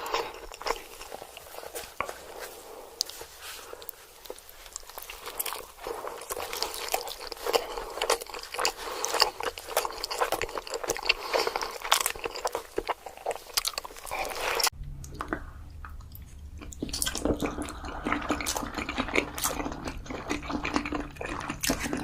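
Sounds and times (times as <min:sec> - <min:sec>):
crunchy biting and chewing: 0:03.8 - 0:15.4, 0:16.0 - 0:22.0.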